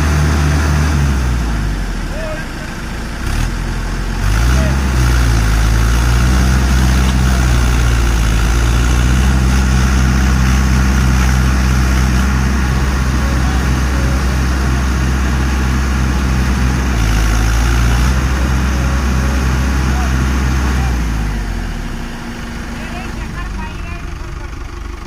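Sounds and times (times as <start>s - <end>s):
tractor diesel engine humming: 0.0s - 25.0s.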